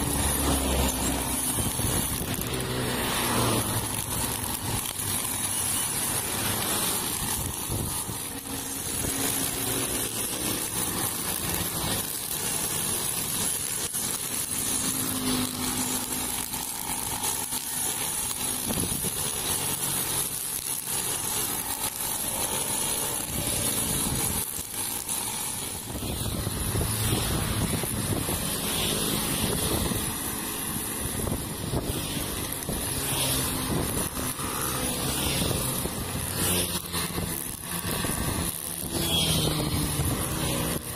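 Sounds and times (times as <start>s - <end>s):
brush cutter running: 0.0s - 40.9s
line cutting grass: 0.0s - 40.9s
motorcycles passing: 0.0s - 40.9s.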